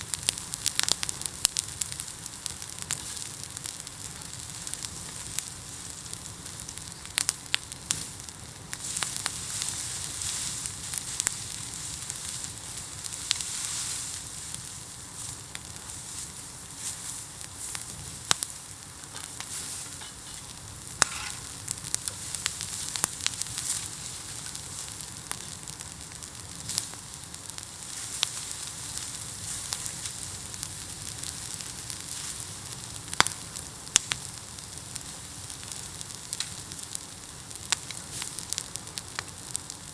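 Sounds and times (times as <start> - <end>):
bamboo bonfire crackling: 0.0 - 39.9.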